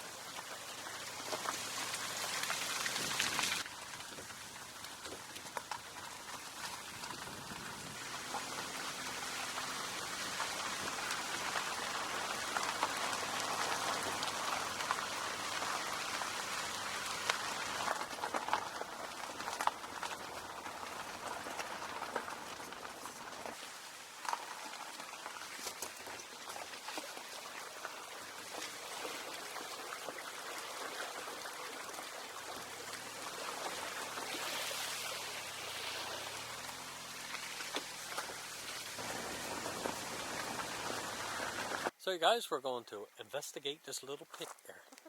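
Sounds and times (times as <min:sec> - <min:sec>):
dense patter of ticks and crackles: 0:00.0 - 0:41.9.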